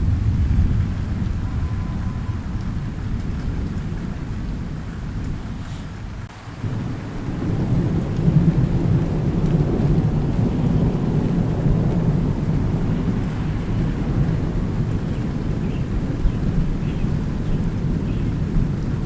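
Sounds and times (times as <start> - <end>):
low thunder roll: 0.0 - 19.0
steady rain: 0.0 - 19.0.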